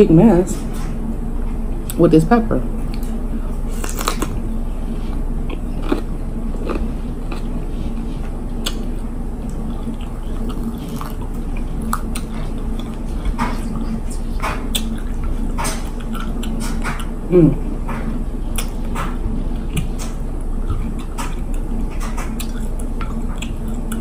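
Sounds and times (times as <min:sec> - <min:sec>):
steady low hum: 0:00.0 - 0:24.0
crunchy chewing: 0:02.8 - 0:24.0.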